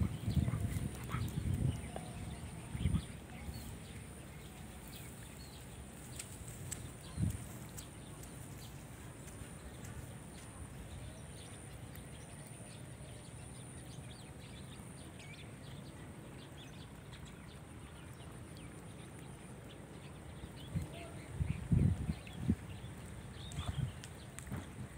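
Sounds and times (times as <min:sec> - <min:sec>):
steady low rumble: 0:00.0 - 0:24.9.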